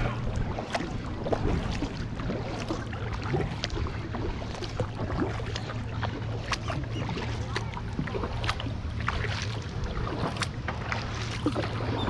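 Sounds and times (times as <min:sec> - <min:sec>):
paddle splashing water: 0:00.0 - 0:12.0
steady low hum: 0:00.0 - 0:12.0.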